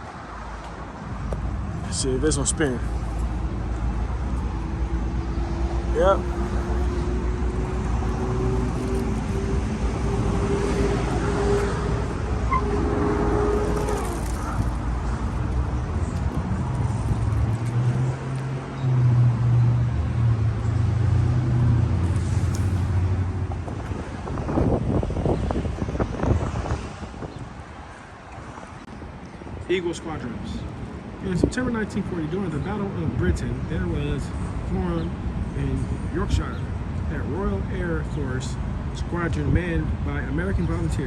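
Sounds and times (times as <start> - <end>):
vehicle engines and traffic: 0.0 - 41.0.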